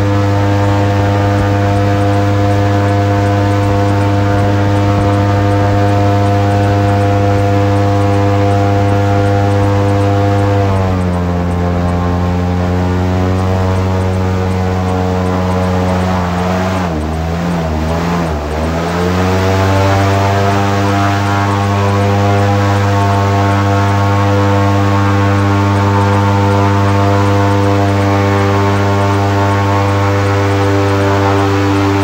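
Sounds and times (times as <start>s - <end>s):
airboat engine and propeller: 0.0s - 32.0s.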